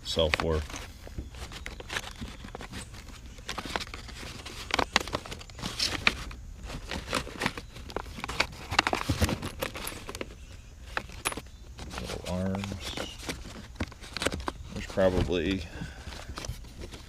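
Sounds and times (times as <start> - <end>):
small metal parts clicking and rattling: 0.5 - 14.5.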